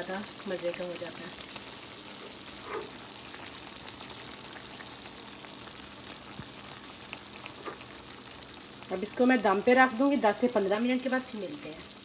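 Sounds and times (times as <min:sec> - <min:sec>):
pot simmering with sizzling hiss: 0:00.0 - 0:12.0.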